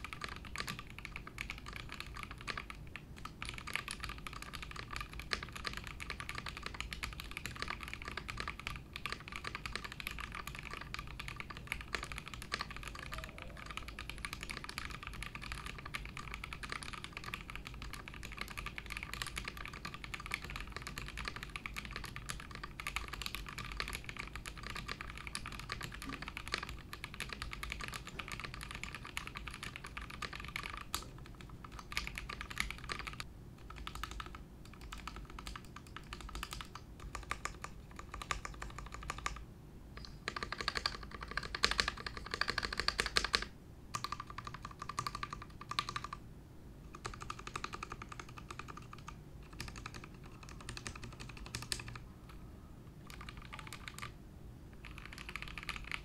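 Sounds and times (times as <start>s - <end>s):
mechanical keyboard typing: 0.0s - 39.4s, 40.0s - 46.2s, 46.9s - 52.4s, 53.0s - 56.0s.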